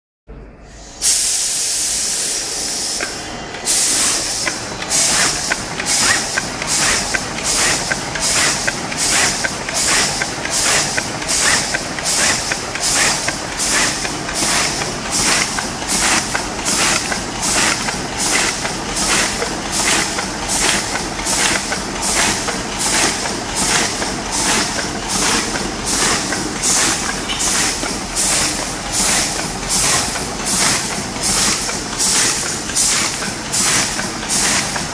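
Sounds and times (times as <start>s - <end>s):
compressed-air hiss: 0.6s - 34.8s
packaging machine running: 2.4s - 34.9s.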